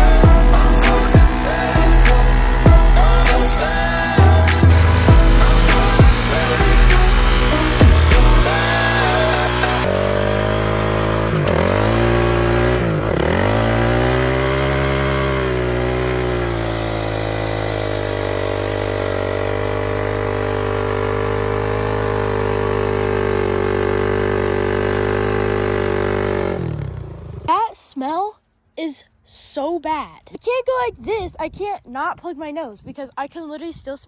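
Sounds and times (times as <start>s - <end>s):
dirt bike engine running: 0.0s - 27.5s.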